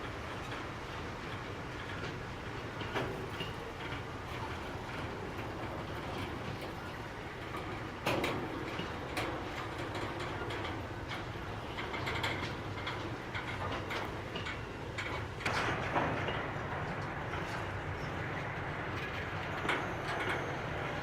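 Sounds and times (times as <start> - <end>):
train wagons rolling on rails: 0.0 - 21.0.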